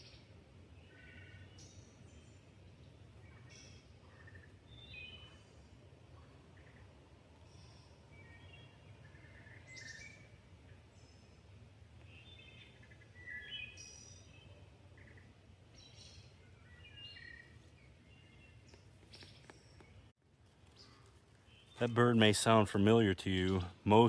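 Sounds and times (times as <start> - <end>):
forest birds: 0.0 - 24.0
low steady background rumble: 0.0 - 24.0.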